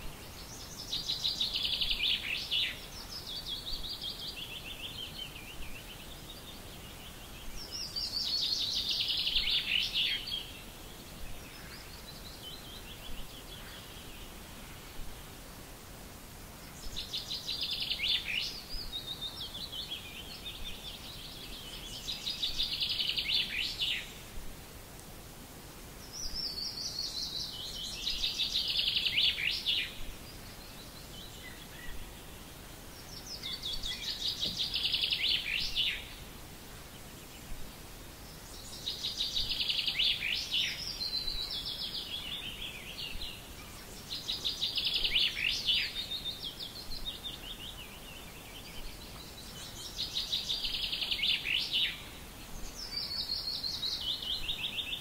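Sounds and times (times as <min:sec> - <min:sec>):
faint outdoor background: 0:00.0 - 0:55.0.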